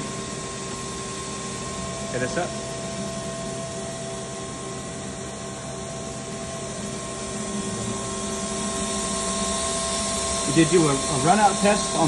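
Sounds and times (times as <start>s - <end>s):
machine hum with hiss: 0.0s - 12.0s
constant whining tones: 1.5s - 12.0s.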